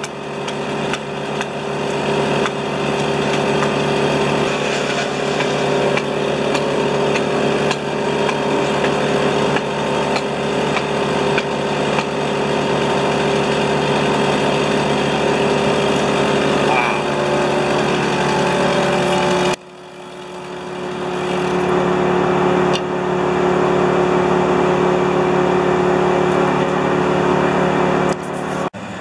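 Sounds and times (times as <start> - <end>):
chainsaw running: 0.0 - 28.7.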